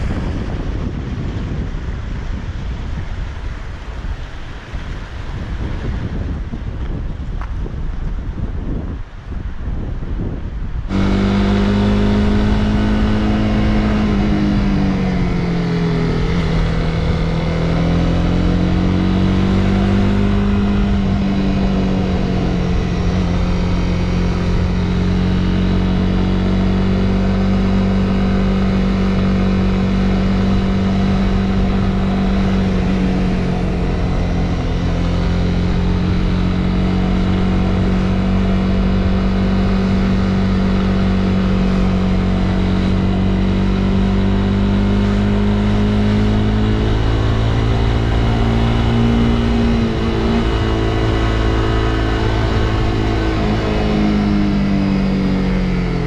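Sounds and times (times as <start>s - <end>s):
motorcycle engine cruising: 10.4s - 56.0s.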